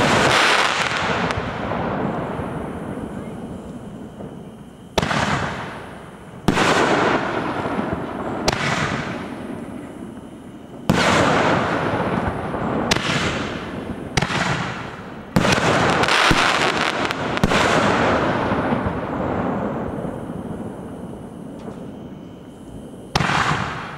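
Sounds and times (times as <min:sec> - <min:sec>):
fading crackle of firework sparks: 0:00.0 - 0:23.9
fireworks booming: 0:00.0 - 0:23.9.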